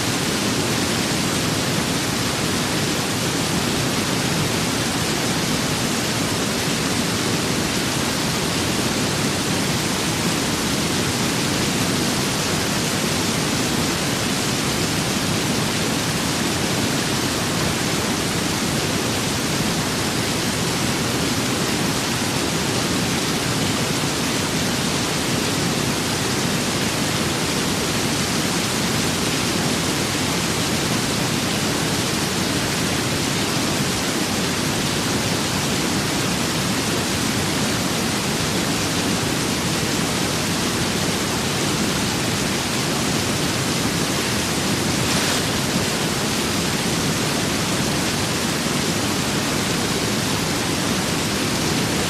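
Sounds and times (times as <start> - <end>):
rain: 0.0 - 52.0
wind: 0.0 - 52.0.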